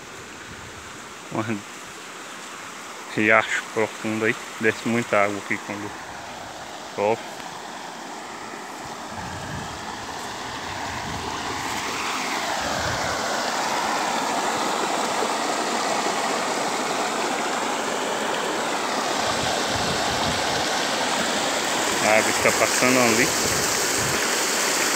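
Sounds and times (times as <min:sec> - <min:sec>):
floodwater rushing over rocks: 0:00.0 - 0:24.9.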